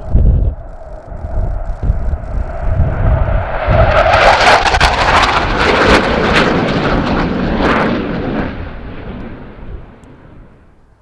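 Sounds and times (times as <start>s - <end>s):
jet passing low: 0.0s - 11.0s.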